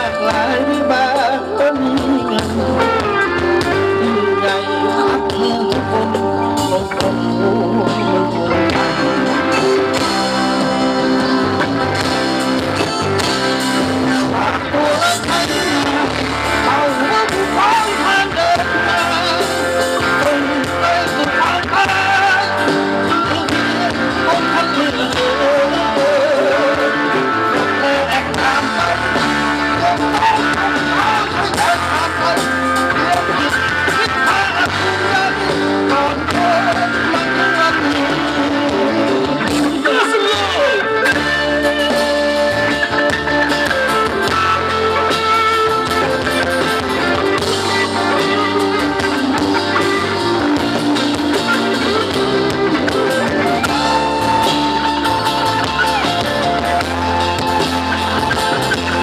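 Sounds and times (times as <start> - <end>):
live band playing instrumental: 0.0 - 59.0.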